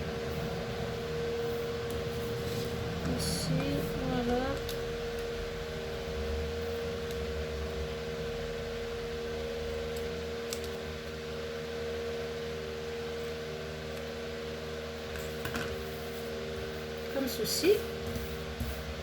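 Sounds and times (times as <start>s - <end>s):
electric fan humming and whining: 0.0s - 19.0s.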